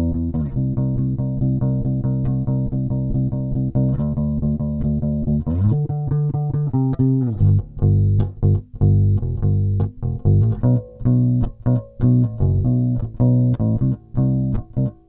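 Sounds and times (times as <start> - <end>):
electric bass plucked notes: 0.0 - 15.0.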